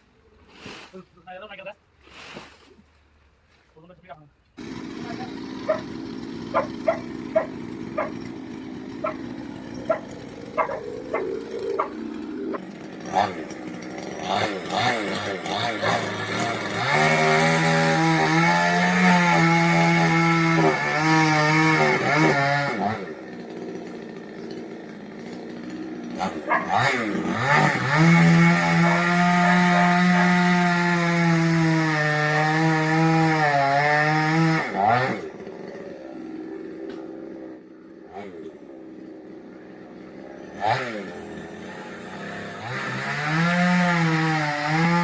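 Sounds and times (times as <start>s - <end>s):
chainsaw cutting wood: 4.6s - 45.0s.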